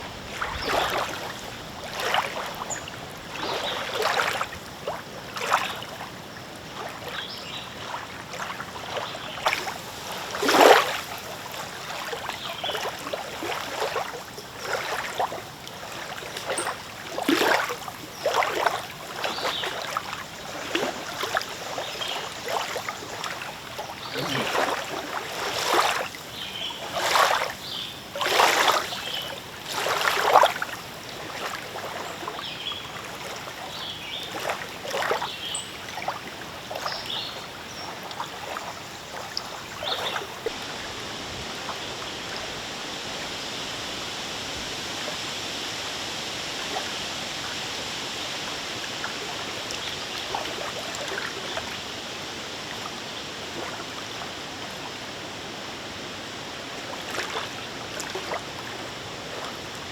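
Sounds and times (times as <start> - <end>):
lake waves lapping on shore: 0.0 - 59.9
wind: 0.0 - 59.9.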